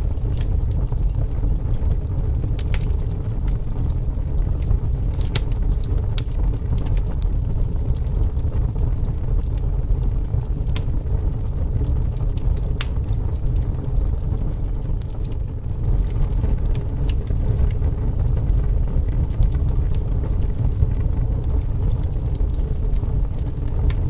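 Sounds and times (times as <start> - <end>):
campfire crackling: 0.0 - 24.0
fire popping: 0.0 - 24.0.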